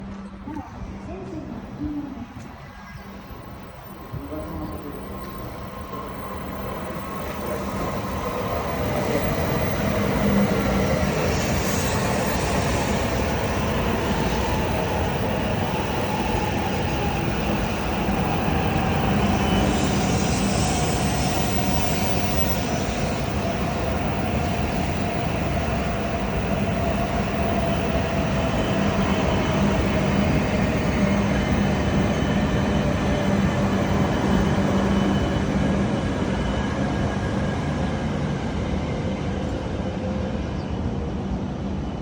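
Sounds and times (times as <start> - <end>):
train wheel and air noise: 0.0 - 42.0.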